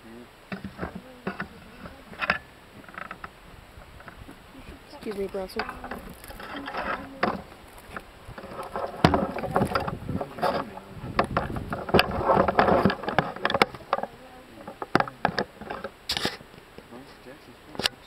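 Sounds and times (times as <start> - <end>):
crackling and rustling: 0.0 - 18.0.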